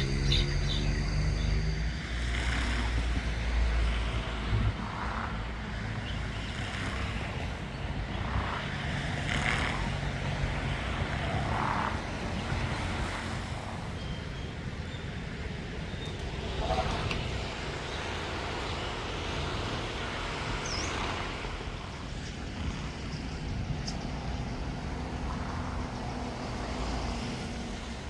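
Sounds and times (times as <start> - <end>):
wind rumbling on microphone: 0.0 - 28.0.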